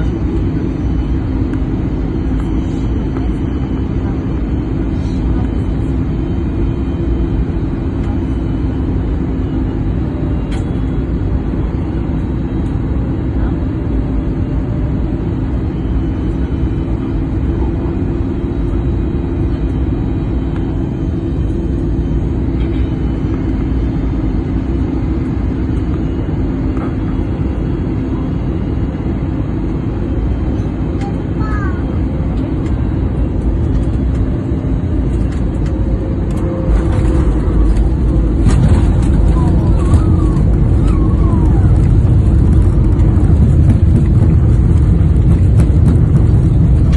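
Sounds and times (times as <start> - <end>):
airliner cabin engine rush: 0.0 - 46.9
constant low hum: 0.0 - 46.9.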